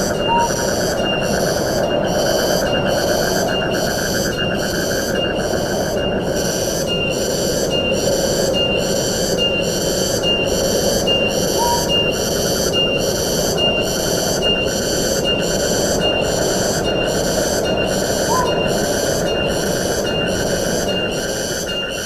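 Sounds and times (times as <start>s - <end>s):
pulsing insect call: 0.0s - 22.0s.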